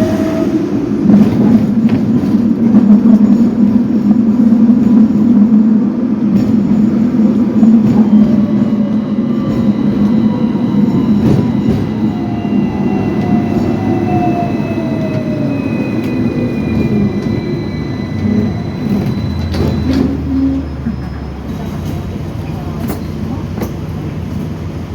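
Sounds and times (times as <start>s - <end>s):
tram motors whining: 0.0s - 24.9s
wheels rumbling on rail: 0.0s - 24.9s.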